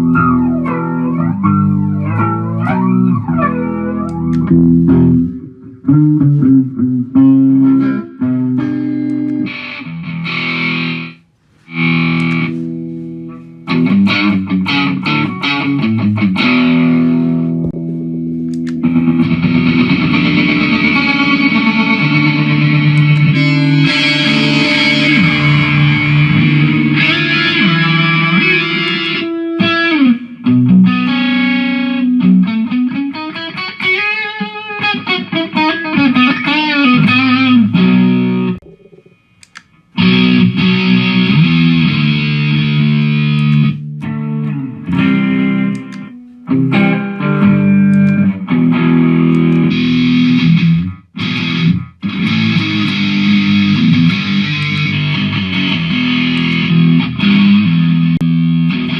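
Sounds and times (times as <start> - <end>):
distorted electric guitar: 0.0 - 58.9.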